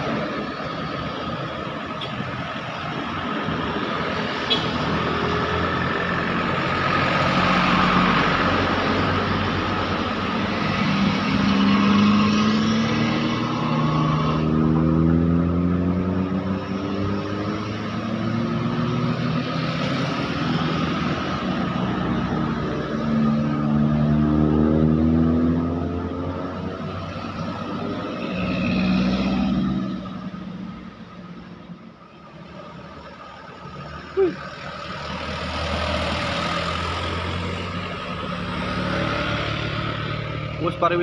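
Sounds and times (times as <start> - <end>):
heavy diesel traffic passing: 0.0 - 15.5, 17.4 - 41.0.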